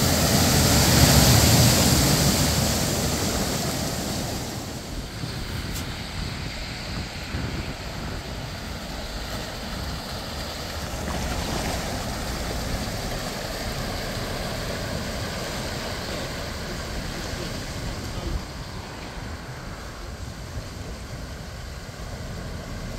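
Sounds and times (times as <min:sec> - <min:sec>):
water sloshing and spraying: 0:00.0 - 0:22.9.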